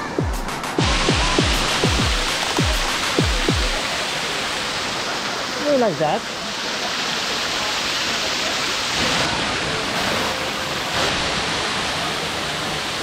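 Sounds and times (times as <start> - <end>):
waterfall splashing into a pool: 0.0 - 13.0.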